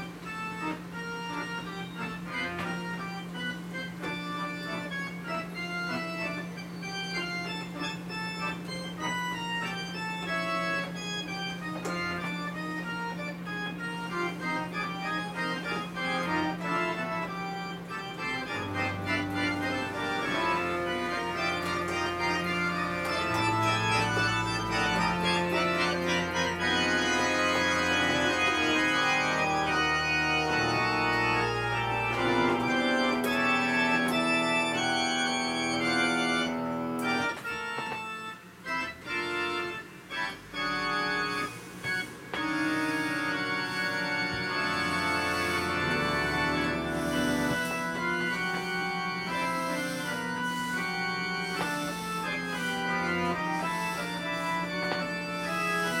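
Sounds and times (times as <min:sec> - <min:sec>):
organ playing chords: 0:00.0 - 0:56.0.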